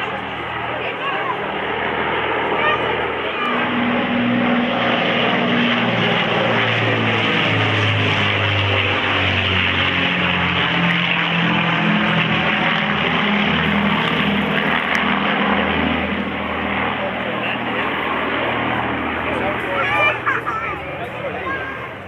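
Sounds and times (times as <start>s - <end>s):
aircraft engines droning overhead: 0.0s - 22.0s.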